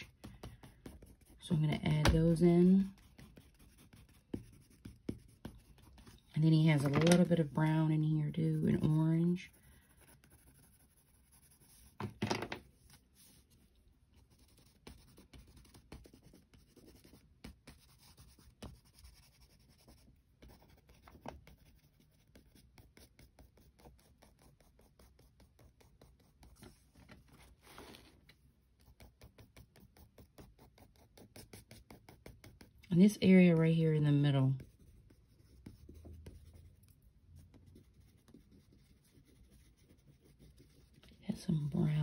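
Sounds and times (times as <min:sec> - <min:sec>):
crayon scratching on paper: 0:00.0 - 0:12.0, 0:12.7 - 0:26.8, 0:28.8 - 0:42.0.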